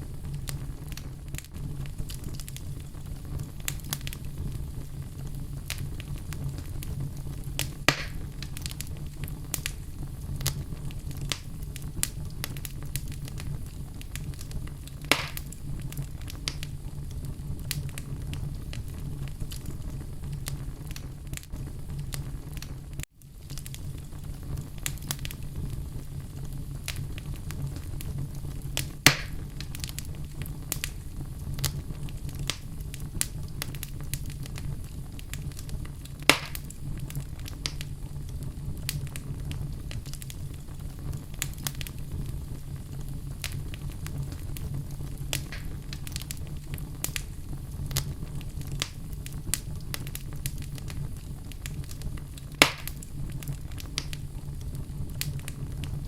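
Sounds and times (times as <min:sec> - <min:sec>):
loud fire pops: 0:00.0 - 0:56.0
wood fire crackling: 0:00.0 - 0:56.0.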